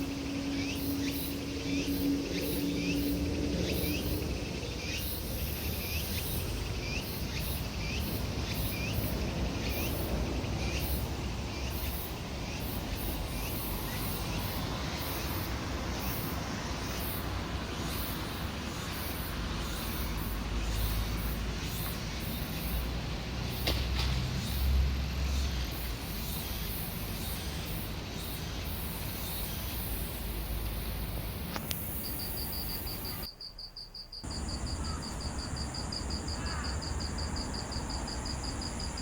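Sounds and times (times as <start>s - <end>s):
high pulsing insect trill: 0.0s - 23.7s, 24.4s - 39.0s
low traffic rumble: 0.0s - 33.3s, 34.2s - 39.0s.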